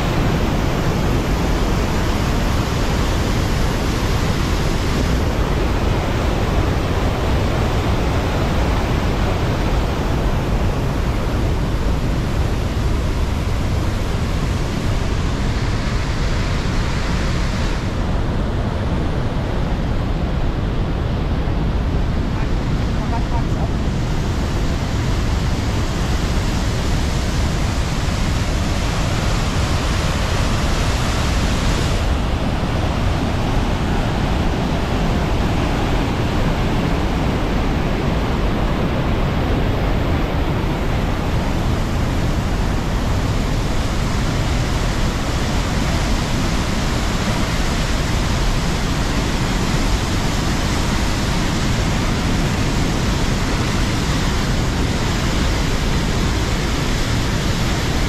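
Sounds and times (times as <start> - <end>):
waterfall rushing over boulders: 0.0 - 58.0.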